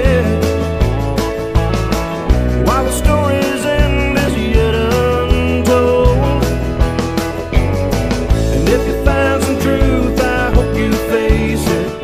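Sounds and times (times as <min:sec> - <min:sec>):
country music: 0:00.0 - 0:12.0.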